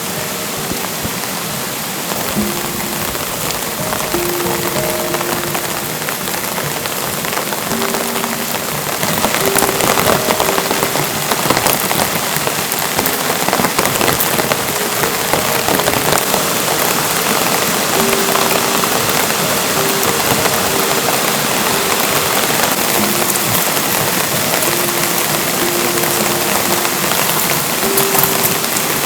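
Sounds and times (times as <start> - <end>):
raindrops hitting close by: 0.0 - 29.0
steady rain falling: 0.0 - 29.0.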